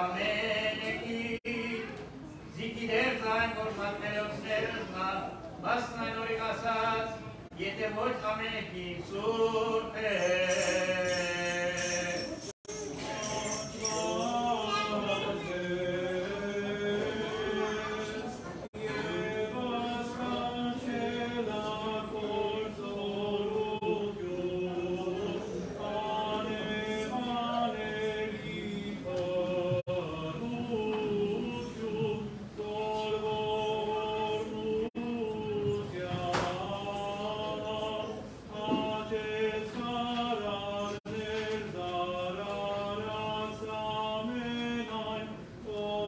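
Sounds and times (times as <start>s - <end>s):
men chanting a hymn: 2.5s - 46.0s.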